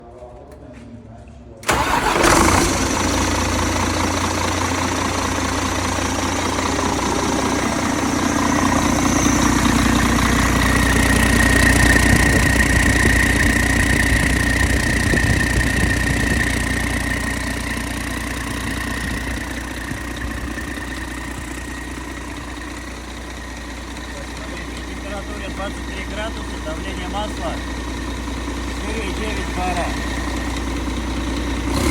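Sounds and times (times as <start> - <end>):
diesel engine idling: 1.6 - 31.9.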